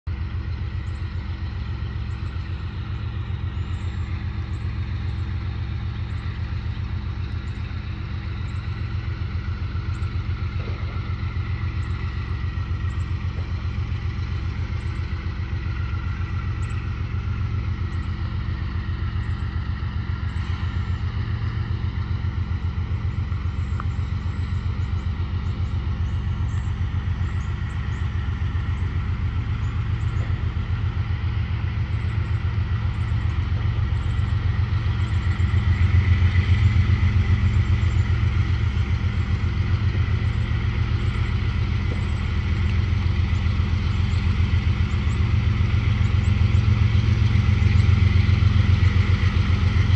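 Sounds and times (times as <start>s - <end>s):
distant diesel locomotive rumble: 0.0s - 49.9s.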